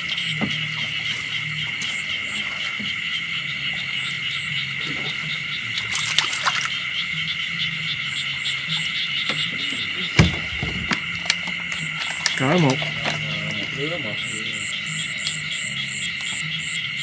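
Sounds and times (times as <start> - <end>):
low steady hum: 0.0 - 17.0
night insects trilling: 0.0 - 17.0.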